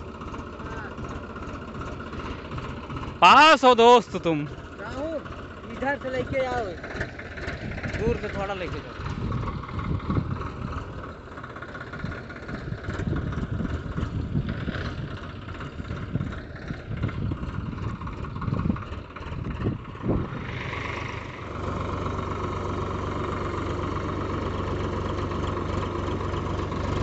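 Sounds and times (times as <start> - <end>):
tractor diesel engine rumbling: 0.0 - 27.0.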